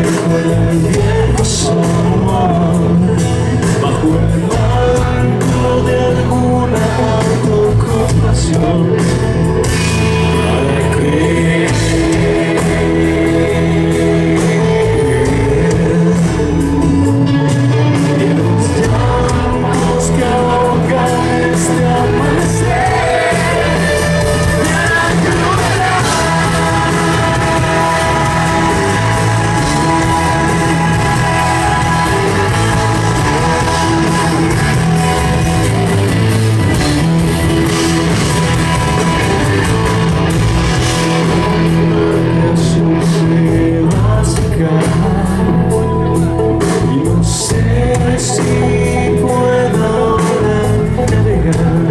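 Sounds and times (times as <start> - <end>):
man singing into microphone: 0.0 - 35.7, 39.4 - 51.9
strummed acoustic guitar: 0.0 - 44.8
drum kit: 0.0 - 51.9.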